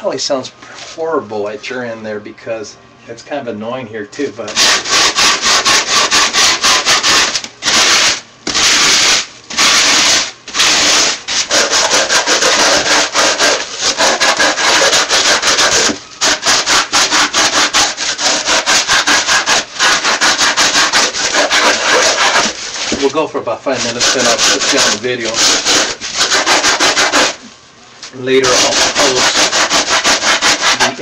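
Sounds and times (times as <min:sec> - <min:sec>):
styrofoam being sanded by hand: 0:04.5 - 0:27.5, 0:28.3 - 0:31.0.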